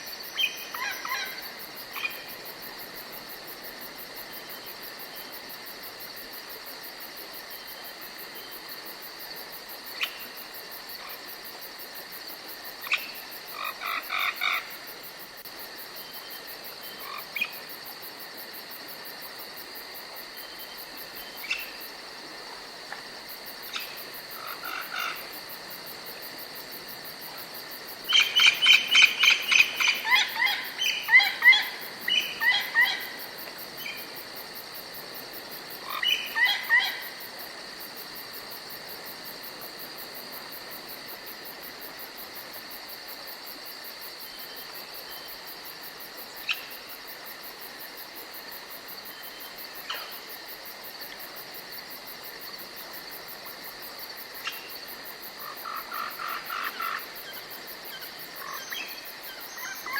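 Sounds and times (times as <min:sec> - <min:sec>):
insect chirring: 0:00.0 - 0:42.0, 0:51.1 - 0:59.9.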